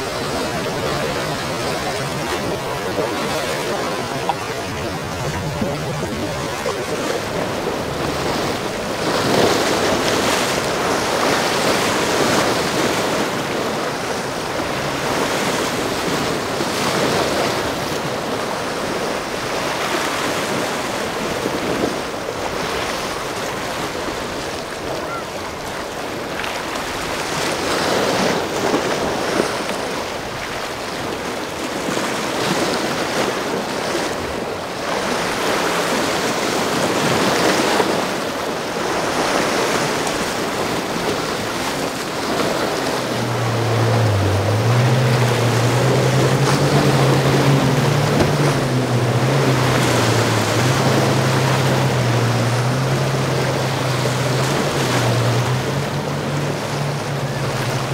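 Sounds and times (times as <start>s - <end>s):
waves breaking and surf rushing: 0.0s - 57.9s.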